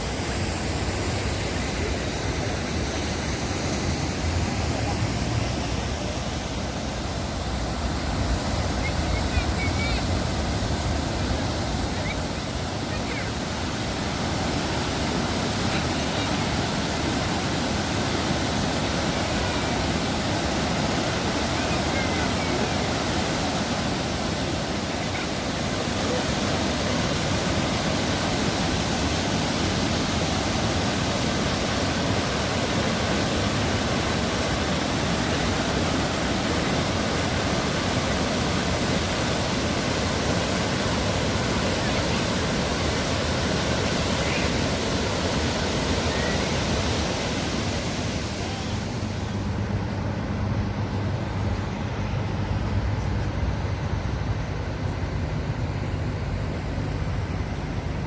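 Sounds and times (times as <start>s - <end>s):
waterfall rushing: 0.0s - 49.6s
low steady hum: 0.0s - 58.0s.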